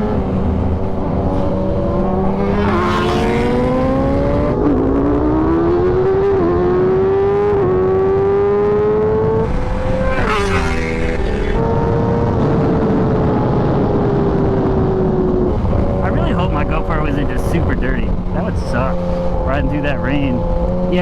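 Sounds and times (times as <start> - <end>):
motorcycle engine accelerating: 0.0 - 21.0
wind noise: 0.0 - 21.0.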